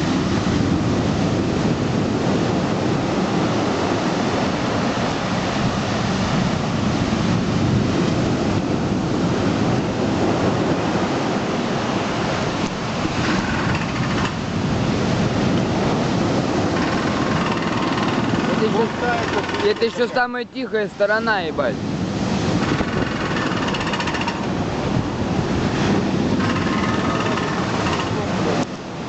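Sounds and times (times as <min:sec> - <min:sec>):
sea surf washing in: 0:00.0 - 0:29.0
wind noise on microphone: 0:00.0 - 0:29.0.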